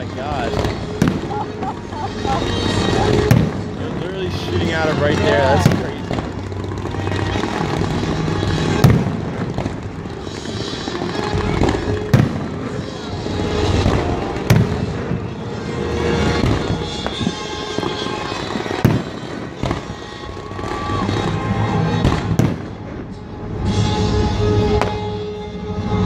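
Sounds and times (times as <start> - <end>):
fireworks bursting: 0.0 - 25.2.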